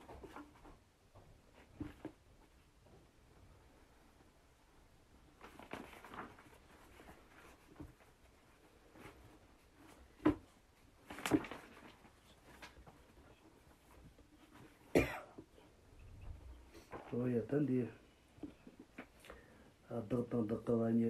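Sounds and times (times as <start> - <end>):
faint rustling: 0.0 - 21.0.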